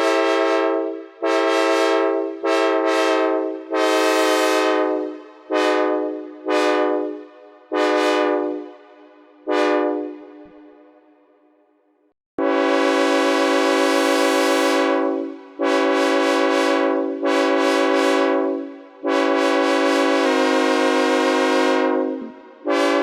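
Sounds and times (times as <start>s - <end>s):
synthesized locomotive air horn blasts: 0.0s - 11.2s, 12.4s - 23.0s.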